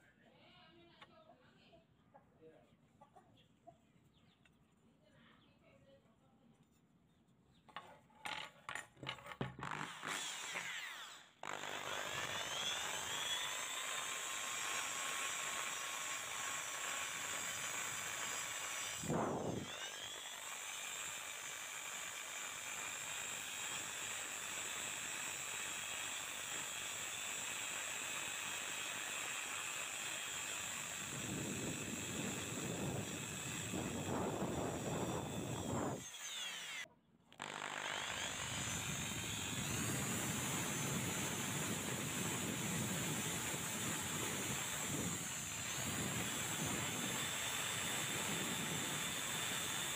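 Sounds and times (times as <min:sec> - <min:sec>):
electric drill polishing steel: 0:09.6 - 0:49.9.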